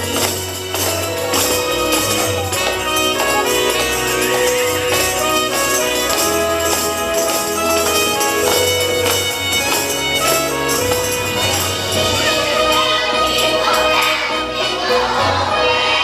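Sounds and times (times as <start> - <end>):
saxophone: 0.0 - 14.7
percussion beat: 0.0 - 14.9
keyboard: 0.0 - 16.0.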